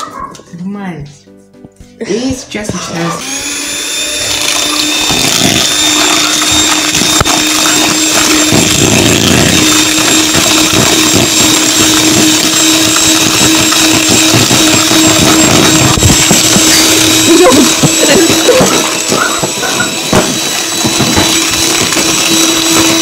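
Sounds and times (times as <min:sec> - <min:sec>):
electric mixer whining: 0:02.5 - 0:23.0.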